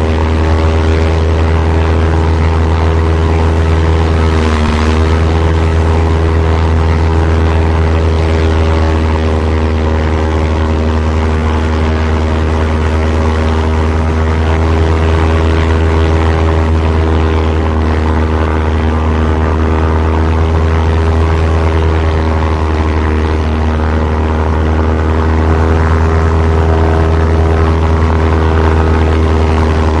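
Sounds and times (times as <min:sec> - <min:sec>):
propeller airplane engine drone: 0:00.0 - 0:30.0.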